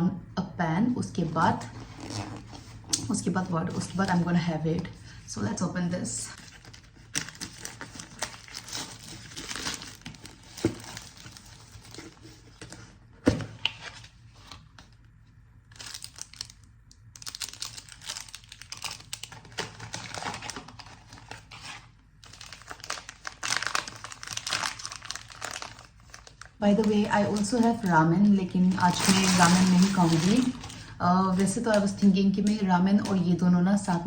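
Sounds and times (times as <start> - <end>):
plastic packaging crinkling: 1.4 - 5.2, 6.0 - 34.0.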